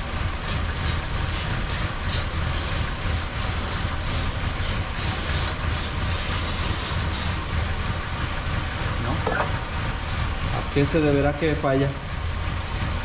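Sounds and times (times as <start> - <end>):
engine idling roughly: 0.0 - 13.0.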